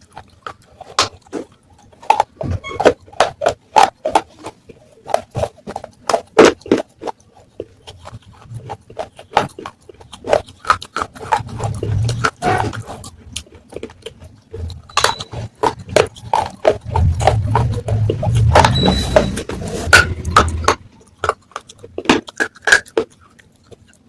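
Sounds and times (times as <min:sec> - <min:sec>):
clay pot pieces crunching: 0:00.0 - 0:24.0.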